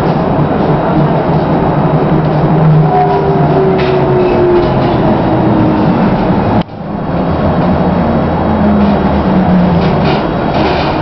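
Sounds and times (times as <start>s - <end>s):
electric tram drive whine: 0.0s - 11.0s.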